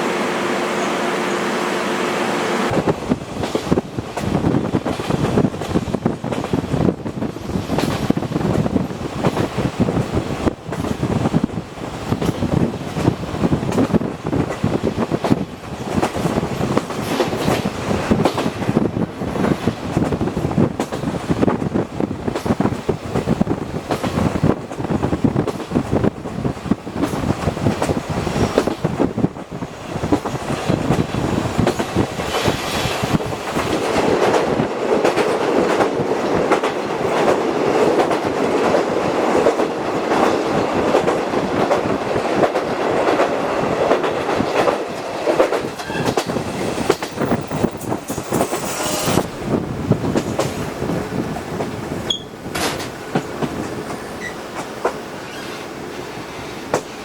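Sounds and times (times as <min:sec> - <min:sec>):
continuous train rumble: 0:00.0 - 0:57.0
train wheels clickety-clack: 0:02.7 - 0:57.0.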